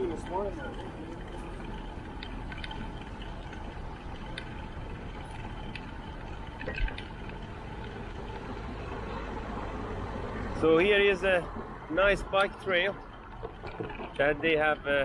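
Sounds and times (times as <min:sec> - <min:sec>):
bicycle ticks and rattles: 0:00.0 - 0:15.0.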